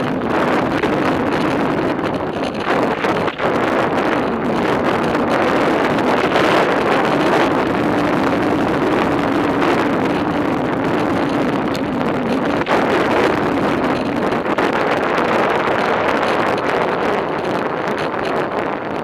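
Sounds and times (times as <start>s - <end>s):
low hum: 0.0s - 19.0s
wind rushing over microphone: 0.0s - 19.0s.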